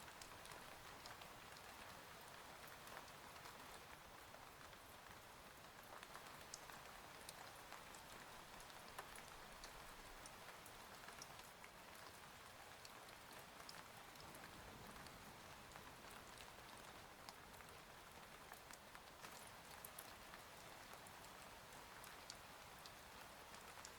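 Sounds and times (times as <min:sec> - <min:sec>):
faint steady rain: 0:00.0 - 0:23.9.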